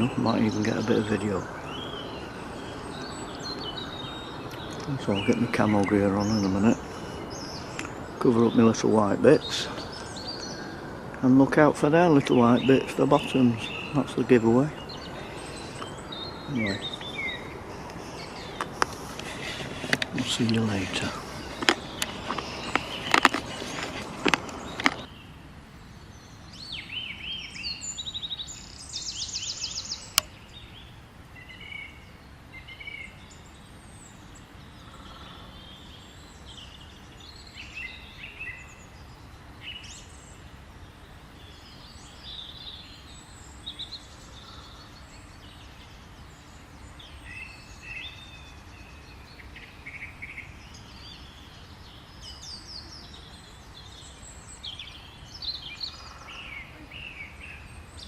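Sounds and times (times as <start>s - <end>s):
birds singing and calling: 0.0s - 58.0s.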